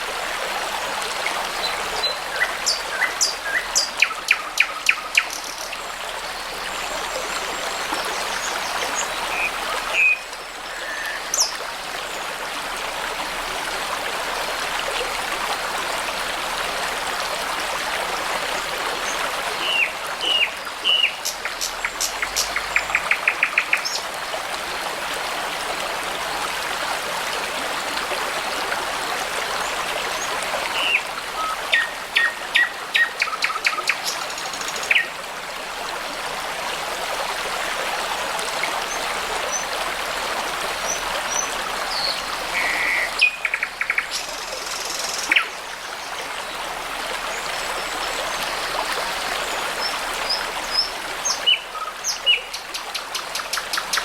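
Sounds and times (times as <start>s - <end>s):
brook water running: 0.0s - 54.0s.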